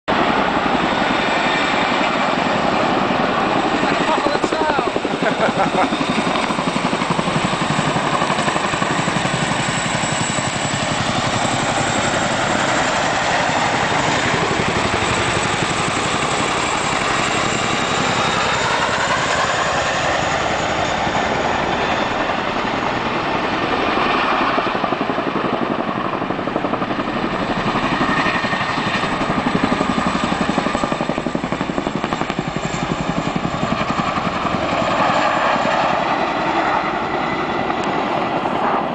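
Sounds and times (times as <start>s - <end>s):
helicopter rotor chop: 0.1s - 38.9s.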